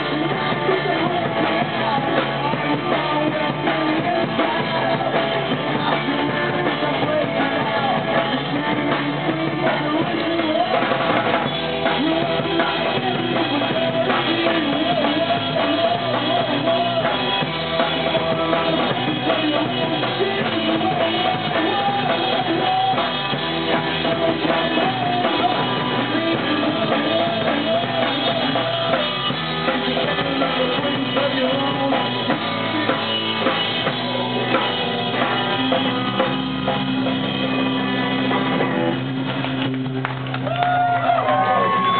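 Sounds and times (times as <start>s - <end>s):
live rock band playing: 0.0s - 41.9s.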